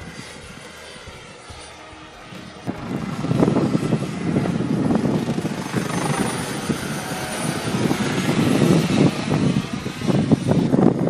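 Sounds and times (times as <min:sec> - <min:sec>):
model helicopter rotor and engine: 0:00.0 - 0:11.0
thin high whine: 0:00.0 - 0:11.0.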